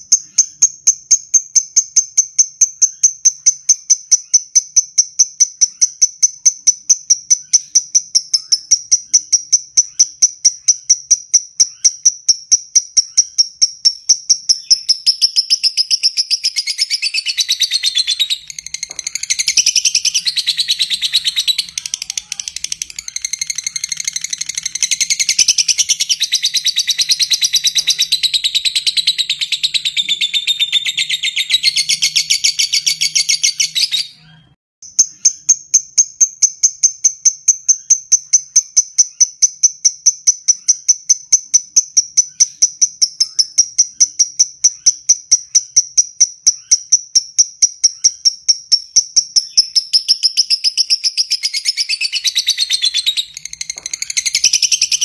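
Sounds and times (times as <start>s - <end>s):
bird ticking chirps: 0.0s - 34.1s, 34.8s - 55.0s.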